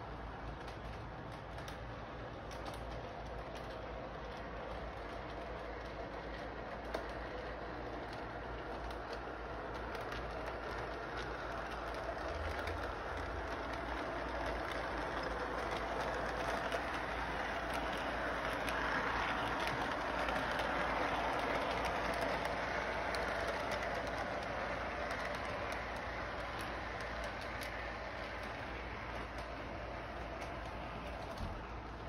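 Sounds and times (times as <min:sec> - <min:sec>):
model train rolling on track: 0:00.0 - 0:32.0.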